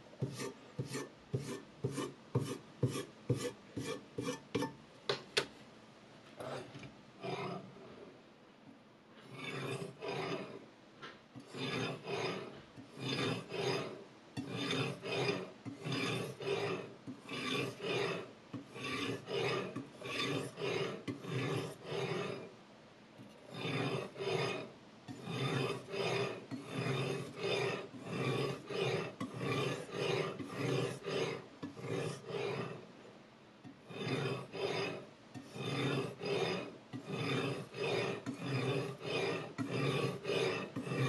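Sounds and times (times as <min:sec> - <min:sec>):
whetstone grinding knife edge: 0:00.2 - 0:04.8, 0:09.2 - 0:22.5, 0:23.5 - 0:32.8, 0:33.6 - 0:41.0.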